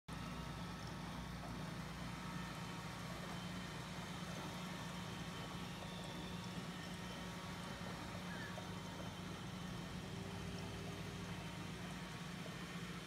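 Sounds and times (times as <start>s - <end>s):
aquarium equipment humming: 0.1s - 13.0s.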